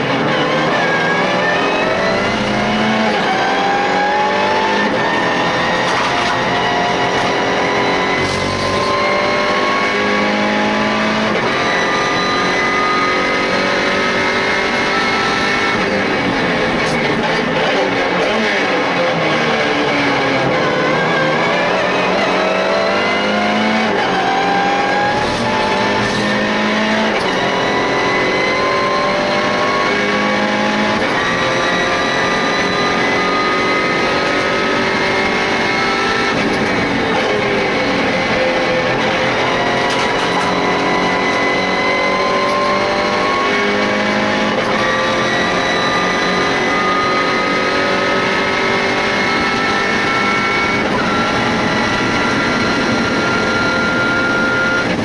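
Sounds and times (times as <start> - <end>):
race car engine at full throttle: 0.0 - 55.0
road and wind noise: 0.0 - 55.0.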